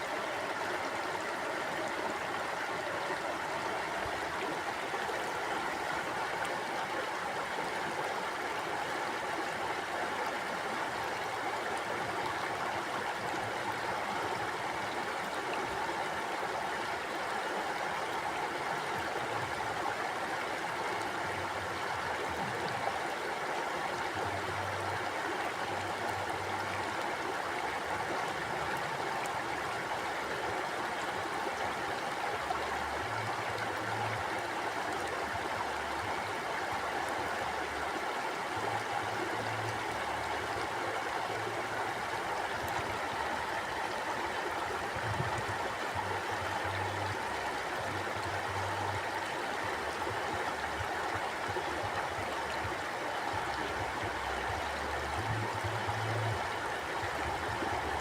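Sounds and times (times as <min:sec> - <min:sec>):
stream gurgling over rocks: 0:00.0 - 0:58.0.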